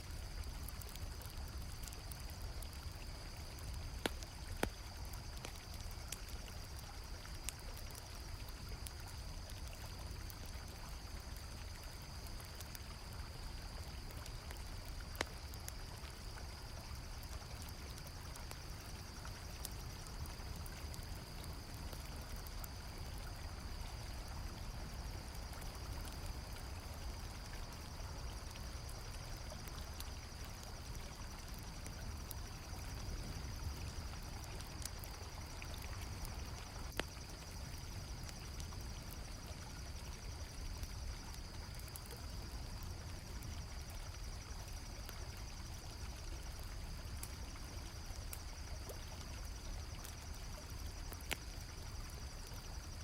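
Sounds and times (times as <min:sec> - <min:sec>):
campfire crackling: 0:00.0 - 0:53.0
crickets chirping: 0:00.0 - 0:53.0.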